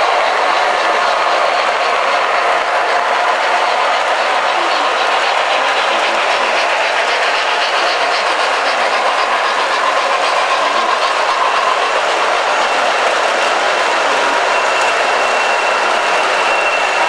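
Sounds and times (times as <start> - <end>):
model train rumbling on track: 0.0 - 17.0
wheels clicking over rail joints: 0.0 - 17.0.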